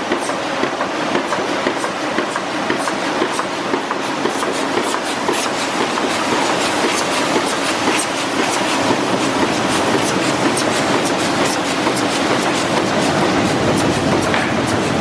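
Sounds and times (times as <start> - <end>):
printing press clattering: 0.0 - 15.0.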